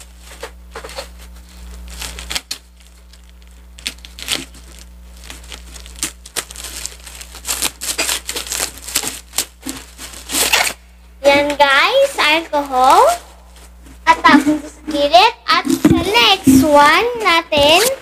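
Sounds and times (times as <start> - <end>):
bubble wrap crinkling and crackling: 0.0 - 18.0.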